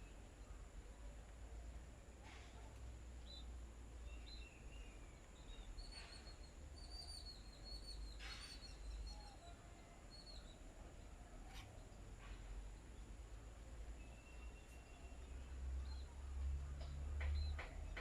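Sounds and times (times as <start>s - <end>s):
small birds chirping: 3.2s - 18.0s.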